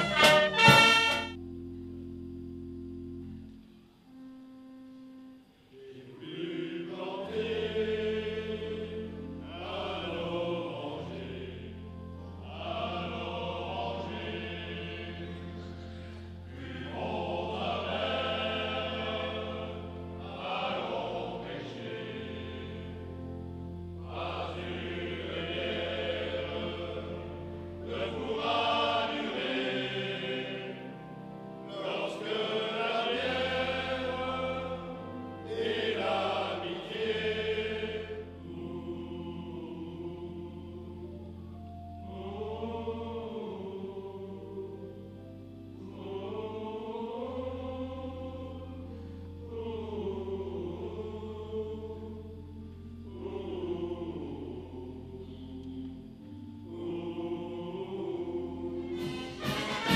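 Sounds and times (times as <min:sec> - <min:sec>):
male choir singing: 0:00.0 - 0:01.4, 0:05.7 - 0:59.9.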